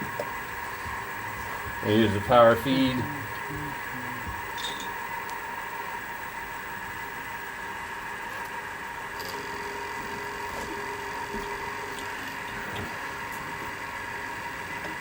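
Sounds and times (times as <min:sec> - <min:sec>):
milling machine whining: 0:00.0 - 0:15.0.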